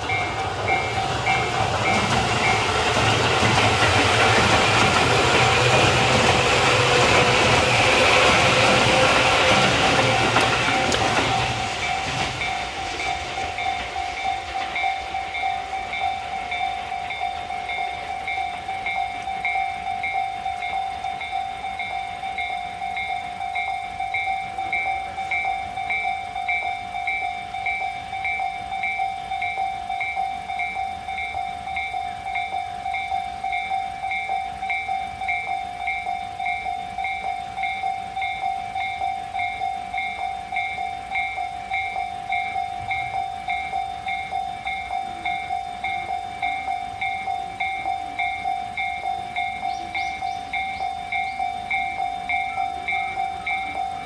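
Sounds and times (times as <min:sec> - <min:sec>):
level-crossing alarm dinging: 0:00.0 - 0:54.0
passing train: 0:00.0 - 0:54.0.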